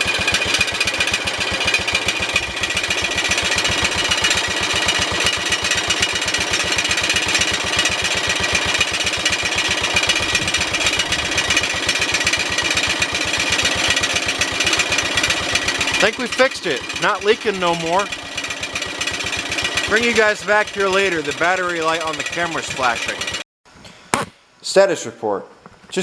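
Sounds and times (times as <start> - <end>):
lawn tractor engine running: 0.0 - 23.4.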